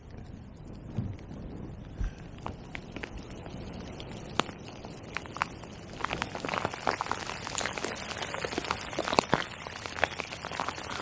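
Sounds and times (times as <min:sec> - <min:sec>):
raindrops ticking on waterproofs: 0:00.0 - 0:11.0
heavy rain: 0:00.6 - 0:11.0.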